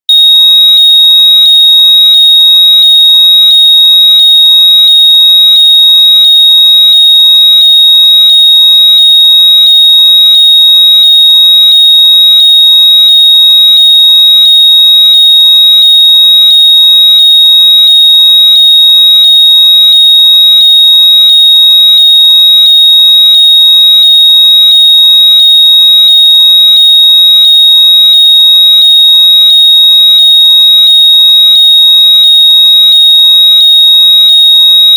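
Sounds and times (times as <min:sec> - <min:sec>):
high-pitched electronic tone: 0:00.0 - 0:34.9.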